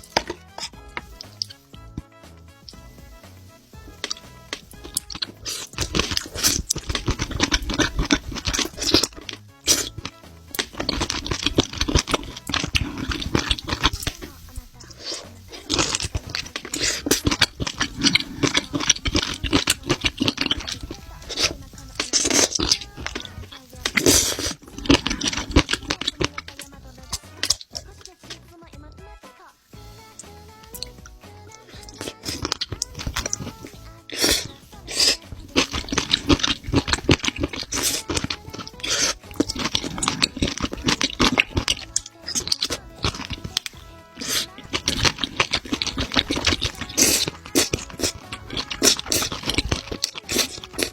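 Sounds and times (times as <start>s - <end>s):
mouth clicks and smacks: 0.0s - 3.1s, 3.8s - 28.4s, 30.2s - 50.9s
wet chewing and slurping: 0.0s - 28.9s, 29.6s - 50.9s.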